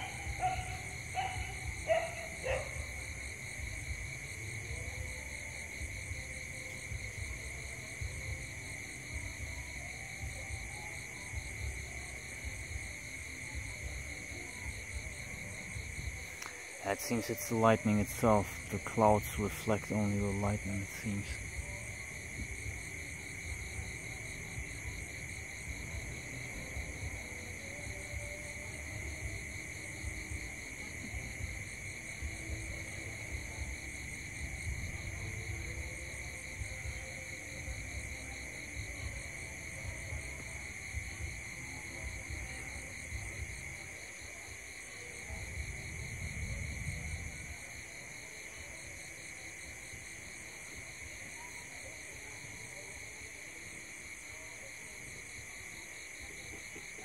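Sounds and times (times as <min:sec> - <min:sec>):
insects trilling: 0:00.0 - 0:04.6, 0:05.3 - 0:53.0.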